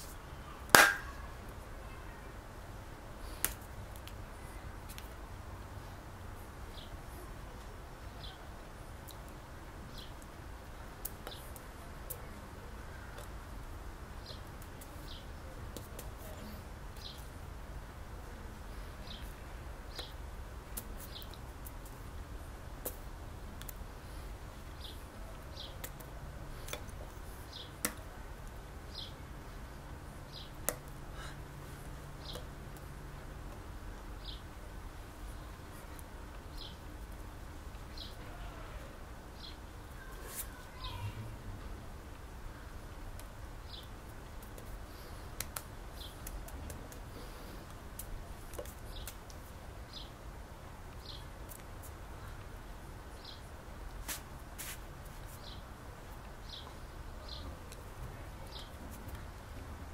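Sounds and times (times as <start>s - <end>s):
low background hiss: 0.0s - 59.9s.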